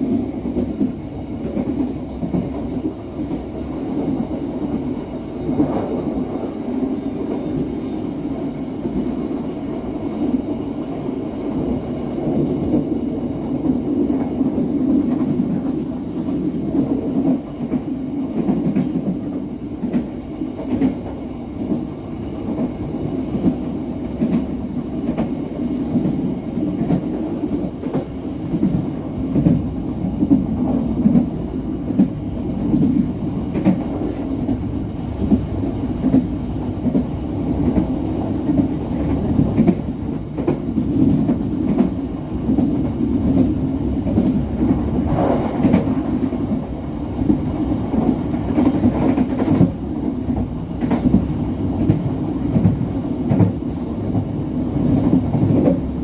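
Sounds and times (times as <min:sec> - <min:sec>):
wheels rumbling on rails: 0:00.0 - 0:56.0.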